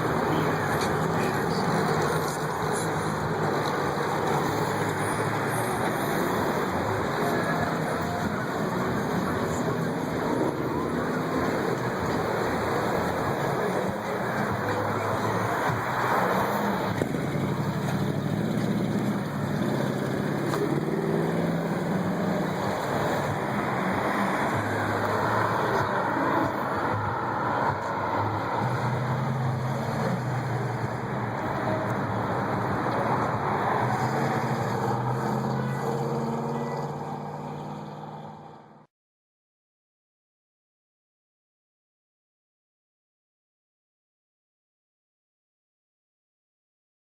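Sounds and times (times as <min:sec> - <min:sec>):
car engine humming: 0:00.0 - 0:38.8.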